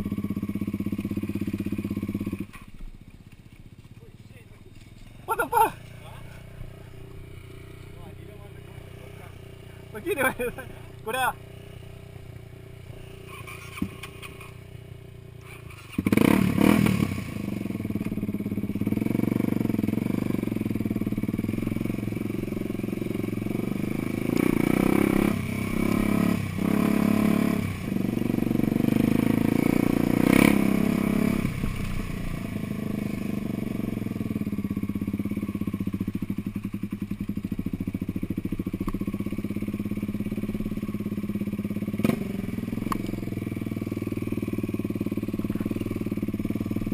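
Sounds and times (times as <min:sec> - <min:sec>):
off-road vehicle engine: 0:00.0 - 0:46.9.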